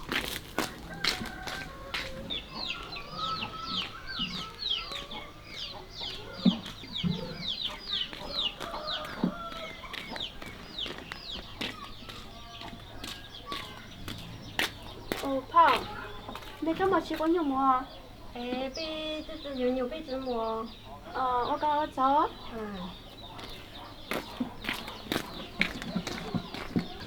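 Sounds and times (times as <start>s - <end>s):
chickens clucking and peeping: 0.0s - 27.0s.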